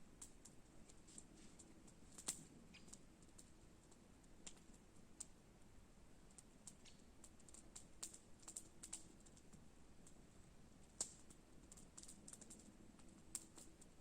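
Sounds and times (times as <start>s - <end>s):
campfire crackling and popping: 0.1s - 5.4s, 6.2s - 10.2s, 10.8s - 14.0s.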